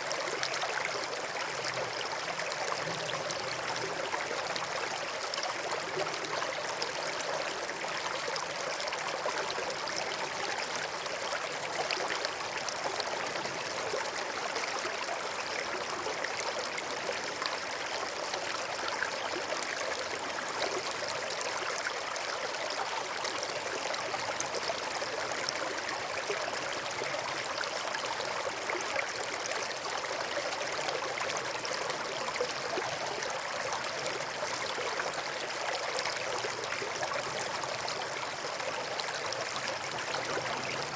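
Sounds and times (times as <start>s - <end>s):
stream of running water: 0.0s - 40.9s.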